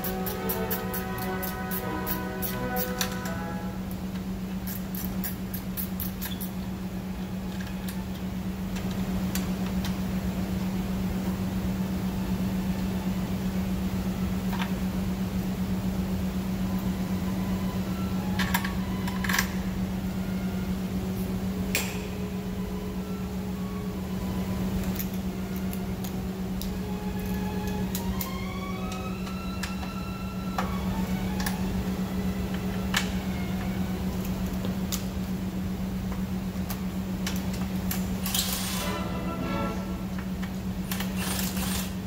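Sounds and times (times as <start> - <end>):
low electric hum: 0.0 - 42.0.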